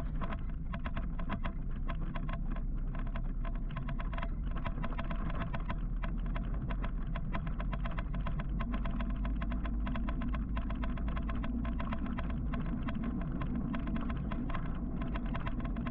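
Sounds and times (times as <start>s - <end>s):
fast ticking rattle: 0.0s - 15.9s
wind and road rumble: 0.0s - 15.9s.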